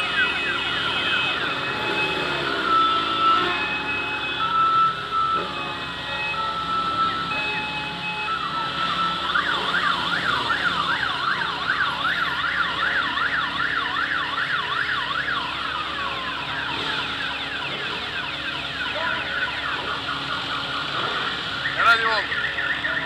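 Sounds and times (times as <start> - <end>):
motorcycle engines running: 0.0 - 23.0
siren yelping: 0.0 - 23.0.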